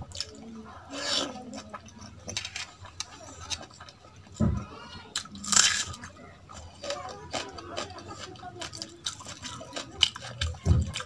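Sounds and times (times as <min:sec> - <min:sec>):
chewing: 0:00.0 - 0:11.0
fingers mixing wet food on plate: 0:00.0 - 0:11.0.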